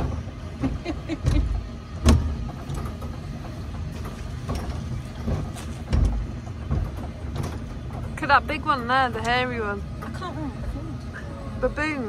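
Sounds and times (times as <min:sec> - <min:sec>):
monorail knocks: 0:00.0 - 0:10.4
monorail car rumbling: 0:00.0 - 0:12.0.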